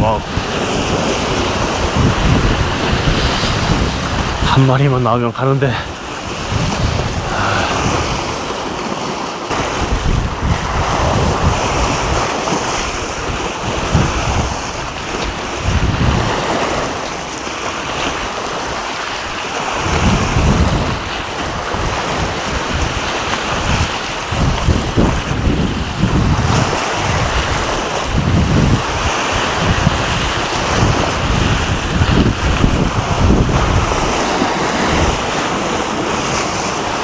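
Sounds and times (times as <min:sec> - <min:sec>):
wind buffeting microphone: 0:00.0 - 0:17.1, 0:17.9 - 0:37.0
sea waves washing: 0:00.0 - 0:37.0.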